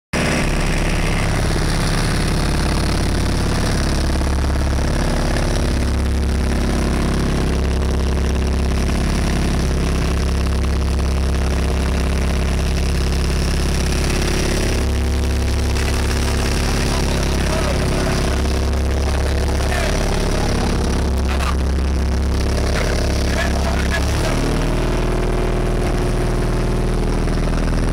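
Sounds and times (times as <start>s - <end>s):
boat engine droning: 0.2s - 27.9s.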